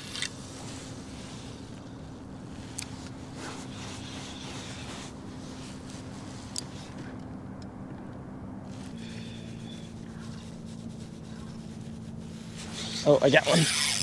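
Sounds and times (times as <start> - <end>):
electric trolling motor humming: 0.0 - 14.0.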